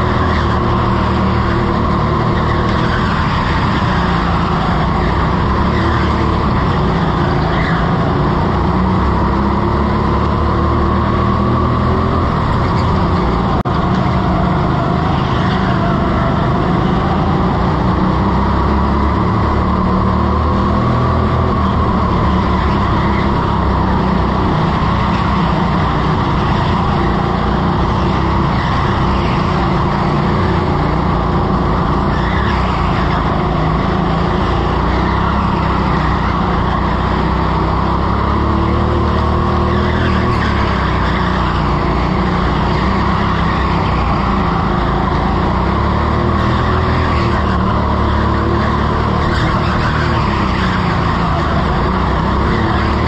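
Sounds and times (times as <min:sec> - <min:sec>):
go-kart engine revving: 0:00.0 - 0:53.0.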